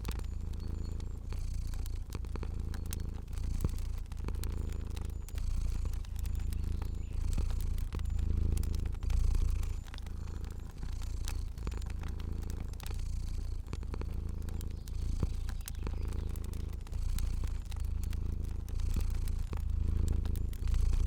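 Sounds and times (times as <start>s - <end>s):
cat purring: 0.0s - 21.0s
fire crackling and popping: 0.0s - 21.0s.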